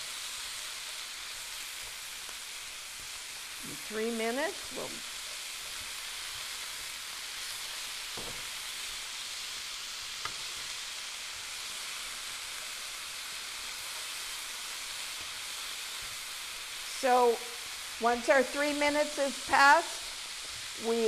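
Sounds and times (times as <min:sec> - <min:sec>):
meat and vegetables sizzling: 0:00.0 - 0:21.0.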